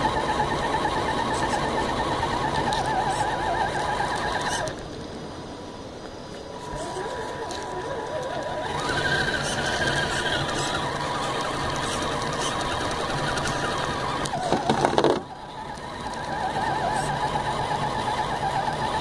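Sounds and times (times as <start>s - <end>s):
toy car electric motor whining: 0.0s - 4.8s, 6.5s - 19.0s.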